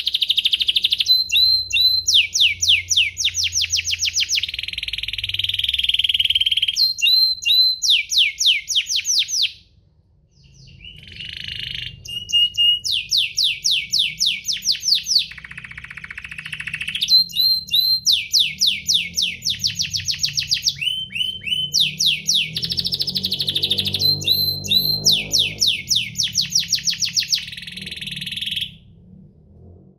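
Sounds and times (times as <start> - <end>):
canary singing trills: 0.0 - 9.7, 10.3 - 28.9.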